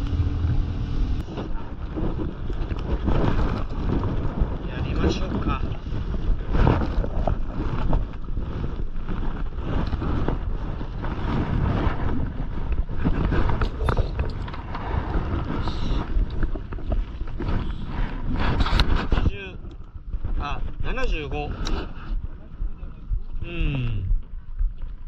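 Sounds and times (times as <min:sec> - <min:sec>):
water splashing against boat: 0:00.0 - 0:23.4
wind buffeting microphone: 0:00.0 - 0:25.0.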